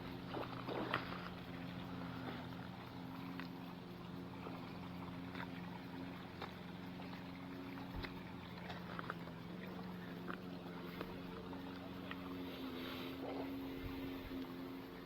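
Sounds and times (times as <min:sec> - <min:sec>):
faint ticks: 0:00.0 - 0:15.0
motor humming: 0:00.0 - 0:15.0.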